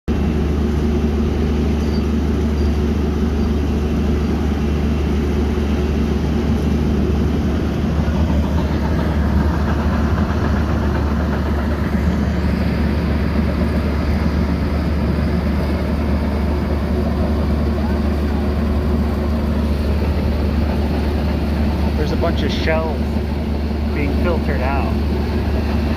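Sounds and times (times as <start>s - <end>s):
heavy machinery engine drone: 0.1s - 25.9s.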